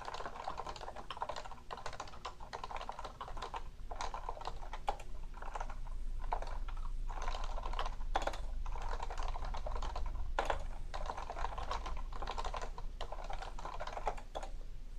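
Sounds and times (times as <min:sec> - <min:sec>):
keyboard typing: 0:00.0 - 0:14.6.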